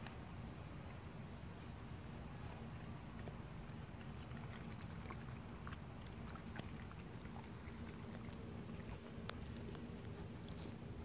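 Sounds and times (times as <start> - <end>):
dog crunching in grass: 0.0 - 11.0
steady low rumble: 0.0 - 11.0.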